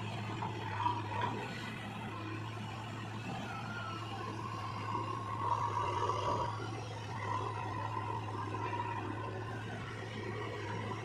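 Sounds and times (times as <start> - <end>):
diesel engine running: 0.0 - 11.0
engine whine: 0.0 - 11.0.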